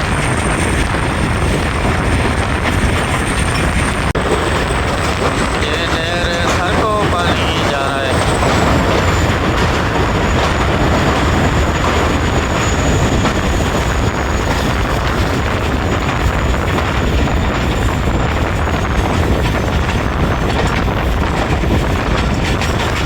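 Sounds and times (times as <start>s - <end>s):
train carriages rumbling and rattling: 0.0s - 23.0s.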